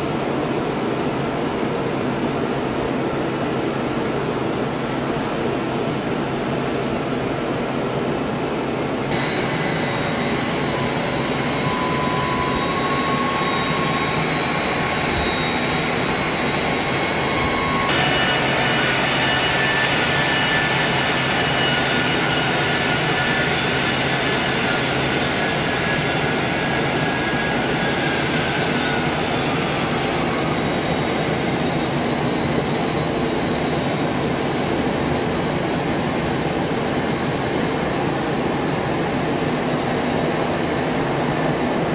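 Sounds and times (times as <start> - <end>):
jet engines running with whine: 0.0 - 41.9.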